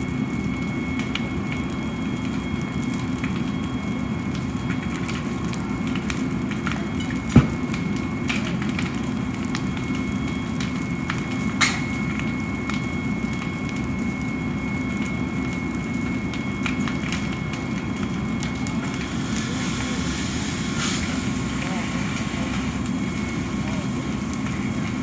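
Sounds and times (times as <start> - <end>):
fire burning with crackles: 0.0 - 25.0.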